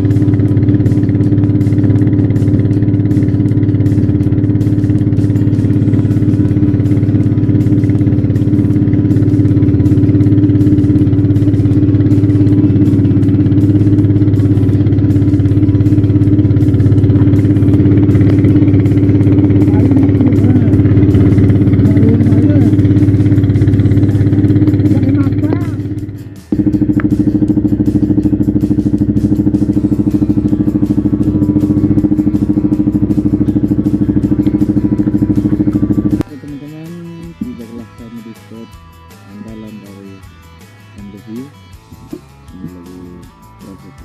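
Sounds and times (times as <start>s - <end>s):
motorboat engine droning: 0.0s - 44.0s.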